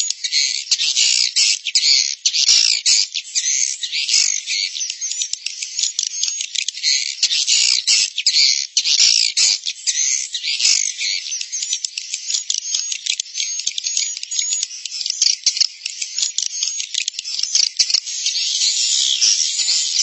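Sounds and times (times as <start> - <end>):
recorded swiftlet twittering: 0.0 - 20.0.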